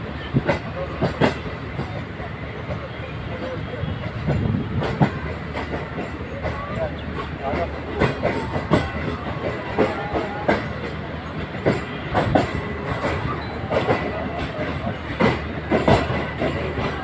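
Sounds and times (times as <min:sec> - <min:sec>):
train rumble: 0:00.0 - 0:17.0
train wheels clacking over rail joints: 0:00.0 - 0:17.0.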